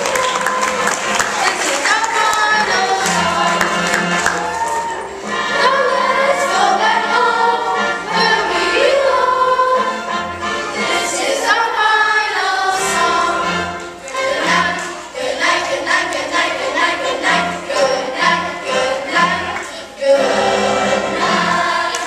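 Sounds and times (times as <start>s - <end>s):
children's choir singing: 0.0s - 22.0s
instrumental accompaniment: 0.0s - 22.0s.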